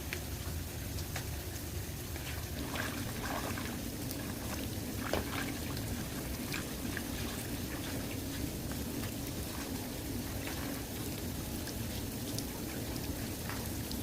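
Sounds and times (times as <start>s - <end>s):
shallow water trickling: 0.0s - 14.0s
small water splashes: 0.0s - 14.0s
water drips: 0.0s - 14.0s.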